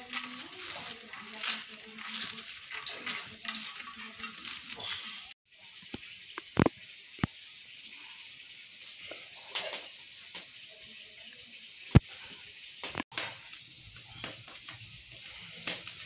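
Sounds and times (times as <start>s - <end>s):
wood fire hissing and crackling: 0.0s - 16.0s.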